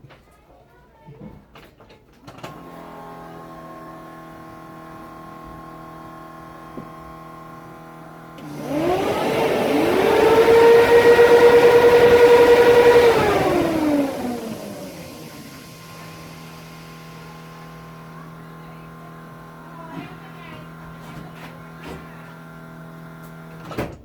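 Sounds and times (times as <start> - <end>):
electric fans whining: 2.4 - 23.7.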